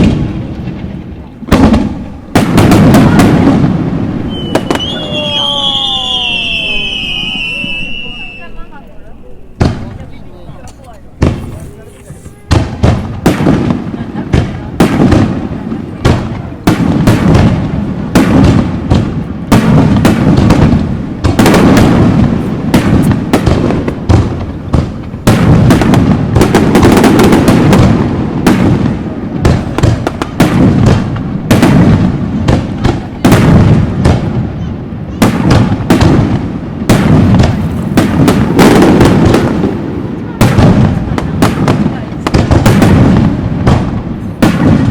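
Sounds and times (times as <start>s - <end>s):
fireworks cracks and booms: 0.0s - 44.9s
rumbling echo: 0.0s - 44.9s.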